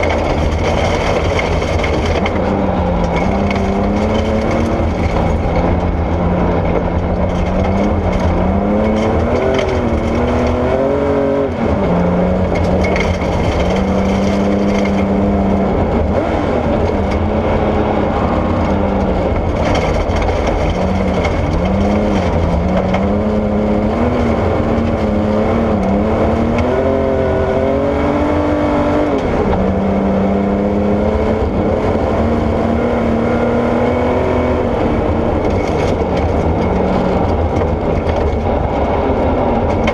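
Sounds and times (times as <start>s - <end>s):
car engine running hard: 0.0s - 39.9s
tyres rumbling on gravel: 0.0s - 39.9s.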